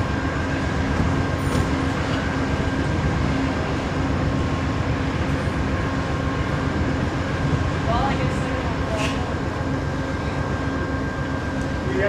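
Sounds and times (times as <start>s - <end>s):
train mechanical hum: 0.0s - 12.0s.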